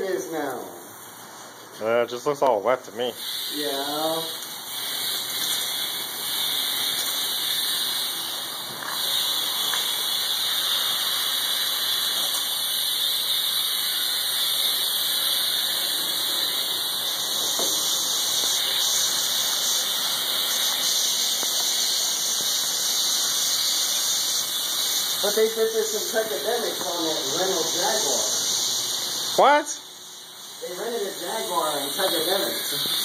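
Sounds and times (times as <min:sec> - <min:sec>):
pressure washer spraying water: 0:03.0 - 0:33.0.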